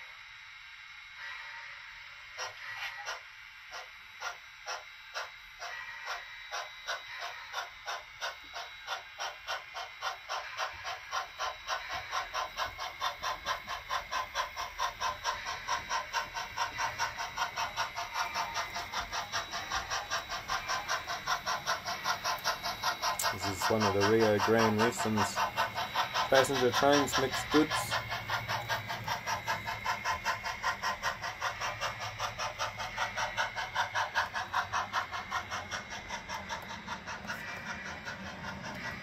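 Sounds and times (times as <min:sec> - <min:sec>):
steady steam hiss: 0:01.1 - 0:39.0
steam locomotive chuffing: 0:01.1 - 0:39.0.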